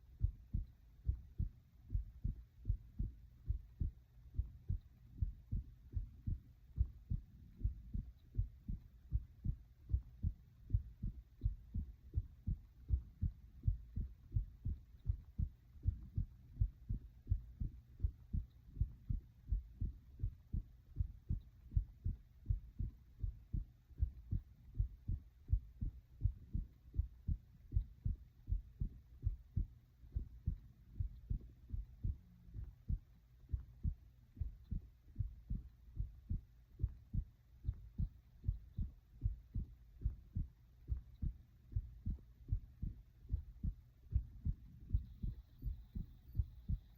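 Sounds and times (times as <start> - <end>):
faint low hum: 0.0 - 46.9
heart beating: 0.0 - 46.9.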